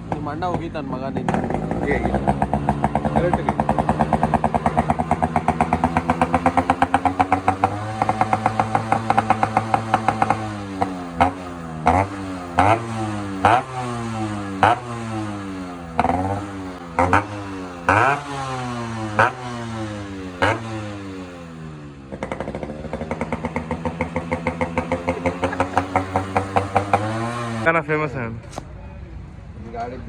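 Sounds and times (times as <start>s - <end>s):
two-stroke engine idling: 0.0s - 27.7s
two-stroke motorcycle engine revving: 0.0s - 27.7s.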